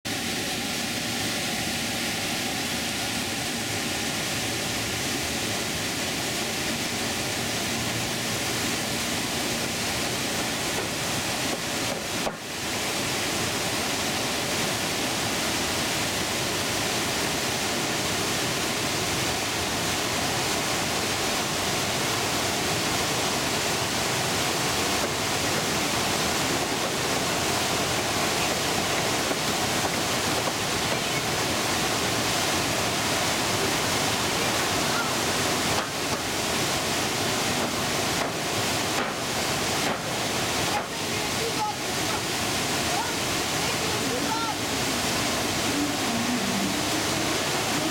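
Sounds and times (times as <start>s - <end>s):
whitewater rapids rushing: 0.1s - 47.9s.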